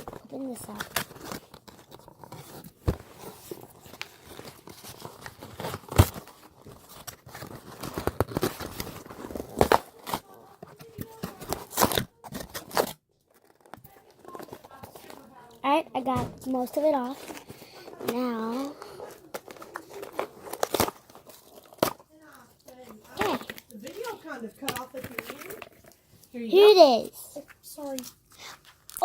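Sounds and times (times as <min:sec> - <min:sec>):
plastic packaging crinkling: 0:00.0 - 0:26.8.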